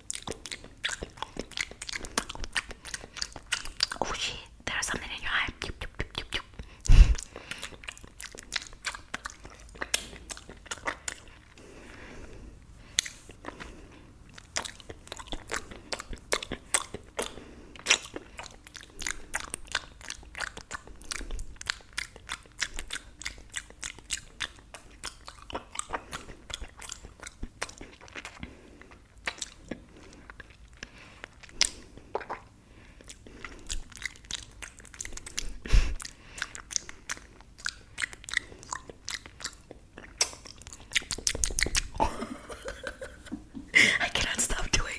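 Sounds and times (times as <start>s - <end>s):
wet mouth clicks and smacks: 0.0s - 11.6s, 12.9s - 42.1s.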